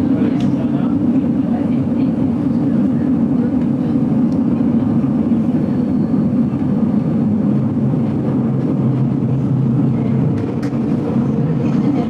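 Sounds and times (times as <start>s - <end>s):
railway carriage rumbling: 0.0s - 12.0s.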